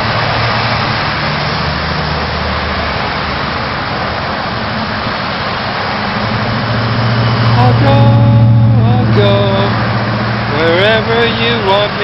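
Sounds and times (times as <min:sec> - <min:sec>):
road noise: 0:00.0 - 0:12.0
vehicle engine humming: 0:00.0 - 0:12.0.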